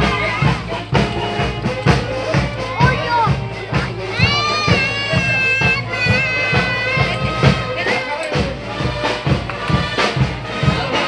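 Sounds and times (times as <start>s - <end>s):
crowd voices: 0.0s - 11.0s
reedy wind instrument melody: 0.0s - 11.0s
steady drum beat: 0.0s - 11.0s.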